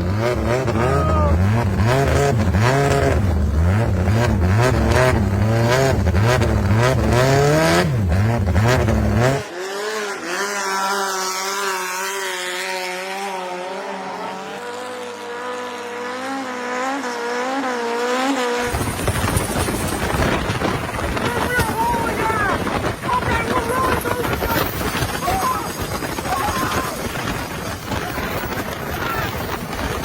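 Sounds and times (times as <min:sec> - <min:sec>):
engine revving hard: 0:00.0 - 0:30.0.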